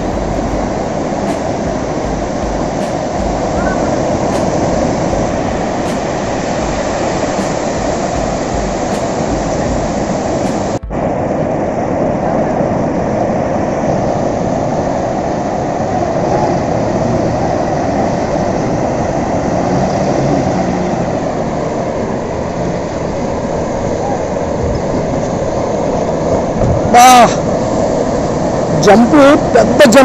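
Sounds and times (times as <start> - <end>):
sea surf breaking: 0.0 - 30.0.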